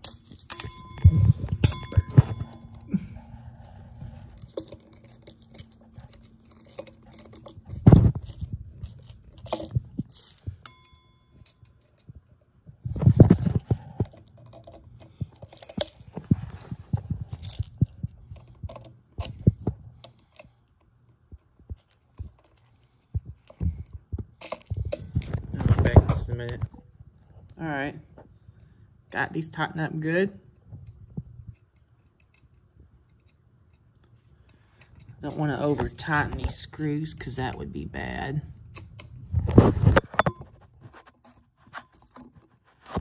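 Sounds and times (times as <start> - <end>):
screwdriver clicks and scrapes on metal: 0.0 - 12.2, 12.9 - 20.8, 21.4 - 26.8, 30.8 - 37.7, 38.7 - 43.0.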